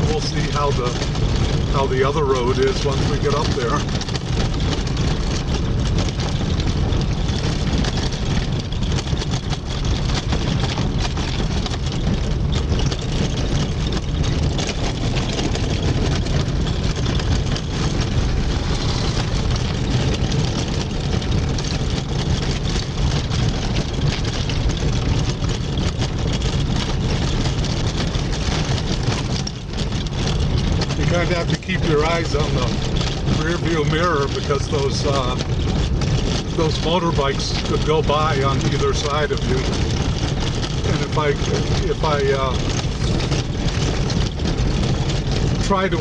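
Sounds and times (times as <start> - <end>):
car engine and road rumble: 0.0 - 46.0
small knocks and rattles: 0.0 - 46.0.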